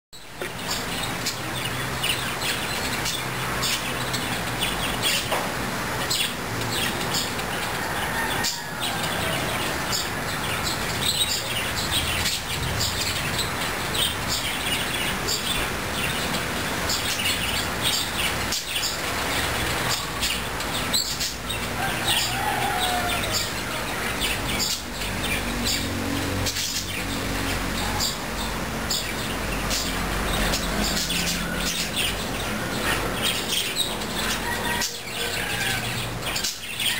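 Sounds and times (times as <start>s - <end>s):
birds chirping in chorus: 0.2s - 36.9s.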